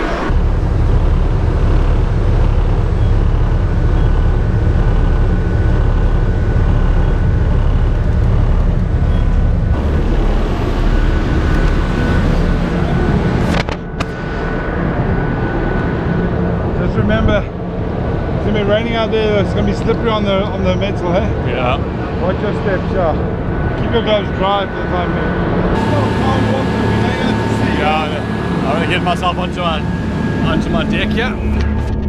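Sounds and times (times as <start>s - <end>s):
boat engine rumble: 0.0s - 32.0s
wind: 0.0s - 32.0s.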